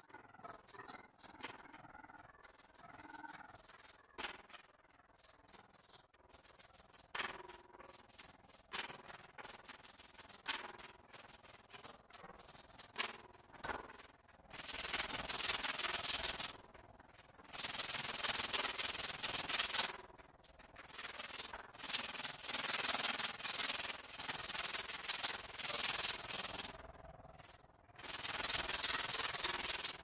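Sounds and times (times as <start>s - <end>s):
scratchy rubbing on a cement wall: 0.0s - 30.0s.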